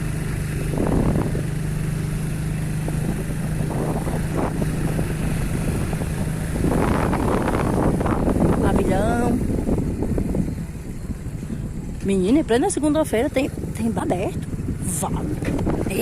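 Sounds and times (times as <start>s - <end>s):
vehicle engine hum: 0.0s - 16.0s
wind and road noise: 0.0s - 16.0s.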